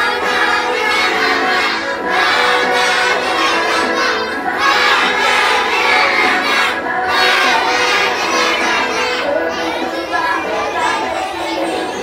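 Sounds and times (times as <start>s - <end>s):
children singing and shouting: 0.0s - 12.0s
music: 0.0s - 12.0s.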